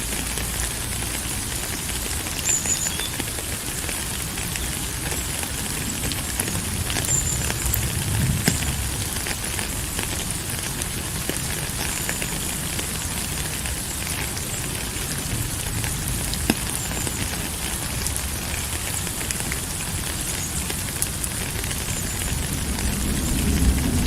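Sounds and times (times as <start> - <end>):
raindrop ticks: 0.0 - 24.0
steady rain: 0.0 - 24.0.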